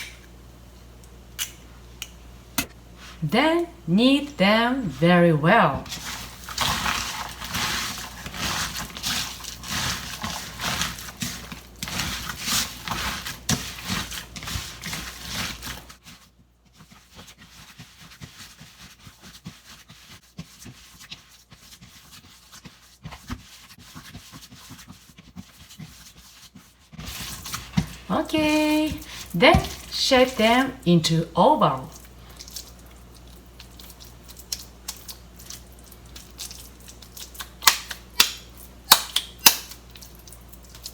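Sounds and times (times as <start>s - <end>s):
hands kneading wet meat mixture: 2.9s - 40.9s.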